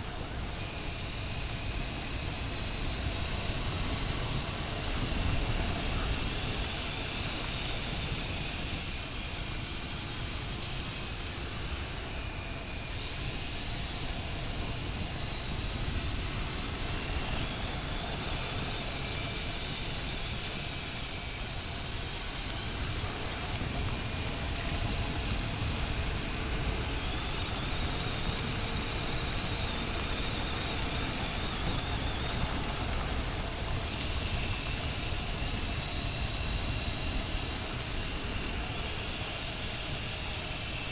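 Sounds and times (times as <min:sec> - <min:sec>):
wind rush on microphone: 0:00.0 - 0:40.9.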